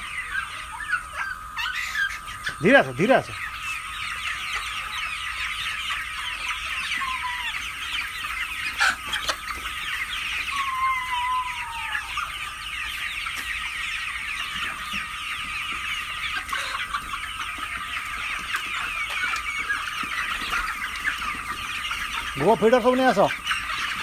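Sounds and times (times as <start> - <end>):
chickens chirping: 0.0 - 24.0
longer falling chicken calls: 0.0 - 24.0.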